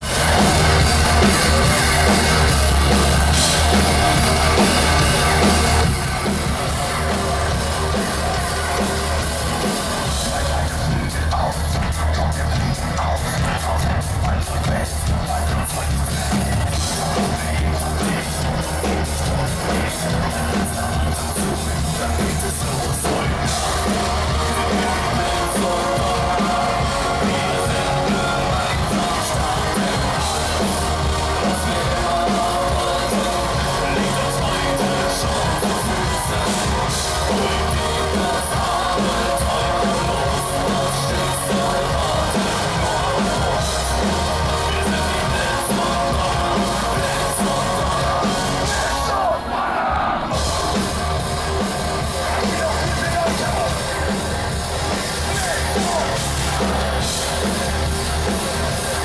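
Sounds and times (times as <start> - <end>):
metal band playing live: 0.0 - 59.0.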